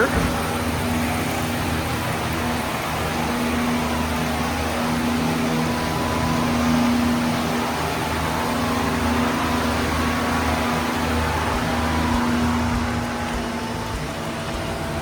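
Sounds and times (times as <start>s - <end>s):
low droning machinery hum: 0.0s - 15.0s
running water hiss: 0.0s - 15.0s.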